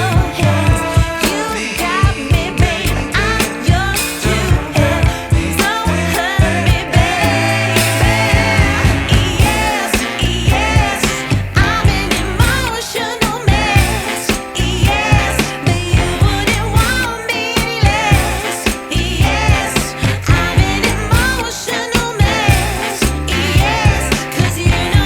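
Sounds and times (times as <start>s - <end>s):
pop song with vocals: 0.0s - 25.0s
steady drum beat: 0.0s - 25.0s.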